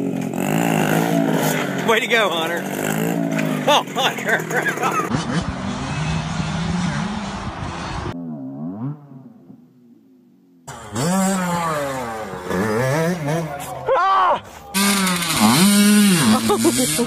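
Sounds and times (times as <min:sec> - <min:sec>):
dirt bike engine revving: 0:00.0 - 0:10.0, 0:10.6 - 0:17.0.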